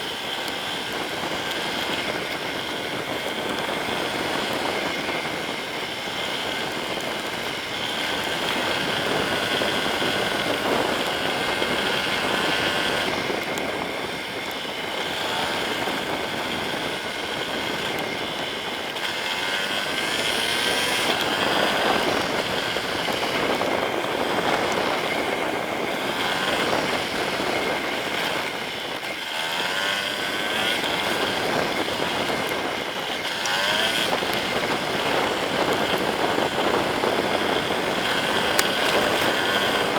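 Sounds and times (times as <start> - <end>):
motorcycle engine running: 0.0 - 39.9
steady rush of noise: 0.0 - 39.9.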